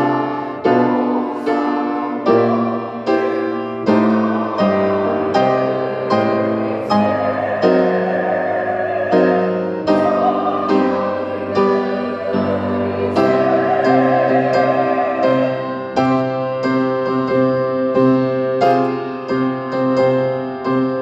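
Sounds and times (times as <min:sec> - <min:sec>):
choir singing a hymn: 0:00.0 - 0:16.9
piano chords: 0:00.0 - 0:21.0.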